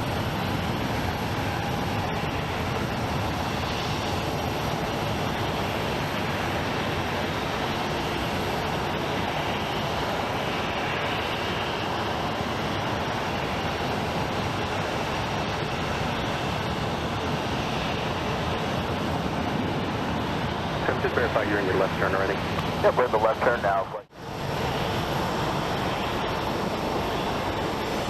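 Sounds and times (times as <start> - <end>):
jet airliner engines: 0.0 - 28.0.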